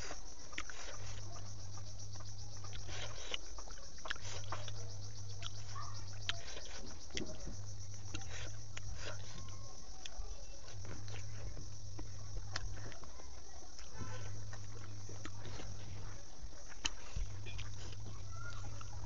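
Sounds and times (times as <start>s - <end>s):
low hum: 0.2s - 19.0s
soft wet clicks of food: 0.4s - 19.0s.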